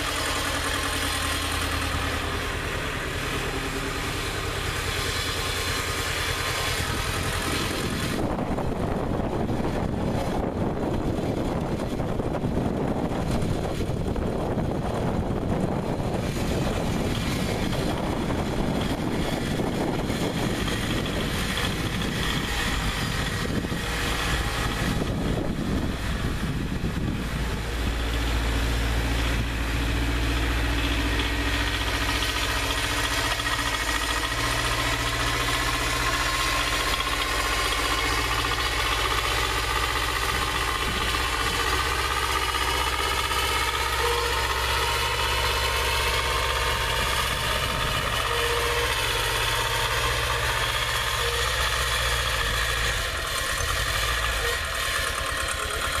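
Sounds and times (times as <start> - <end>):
blade plowing snow: 0.0 - 56.0
tractor diesel engine running: 0.0 - 56.0.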